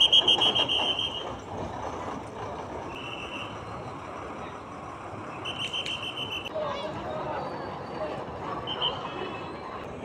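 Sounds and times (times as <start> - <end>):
buses idling and passing: 0.0 - 10.0.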